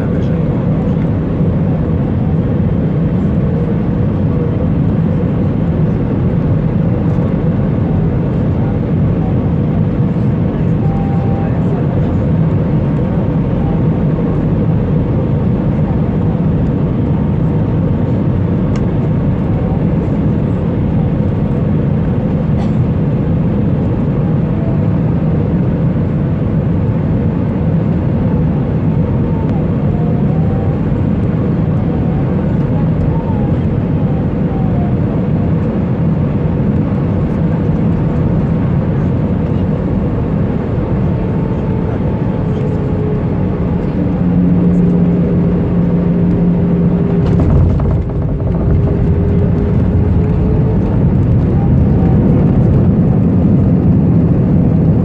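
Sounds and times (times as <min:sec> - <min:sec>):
aircraft engine and airflow drone: 0:00.0 - 0:55.0.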